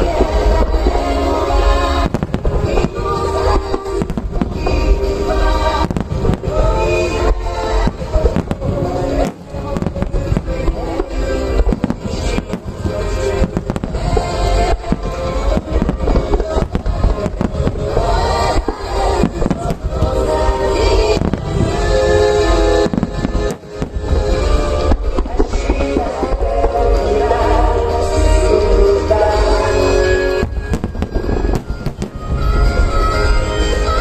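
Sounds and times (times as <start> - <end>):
fireworks booms and cracks: 0.0 - 34.0
loud music: 0.0 - 34.0.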